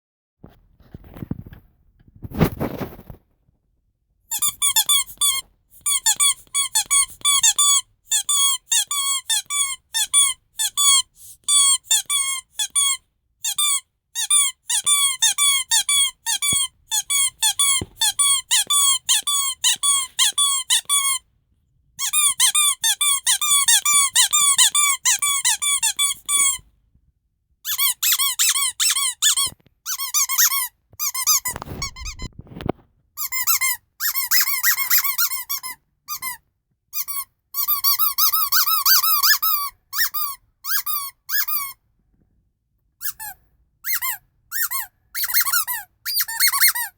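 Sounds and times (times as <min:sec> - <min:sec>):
rubber squeaky toys squeaking: 0:04.3 - 0:21.3, 0:22.0 - 0:26.7, 0:27.6 - 0:41.8, 0:43.0 - 0:46.9.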